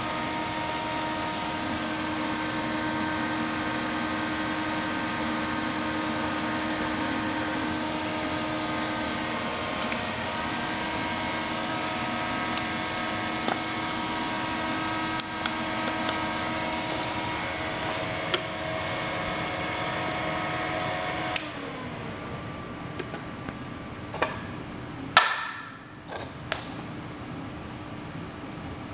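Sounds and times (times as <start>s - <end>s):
induction heater humming: 0.0s - 28.9s.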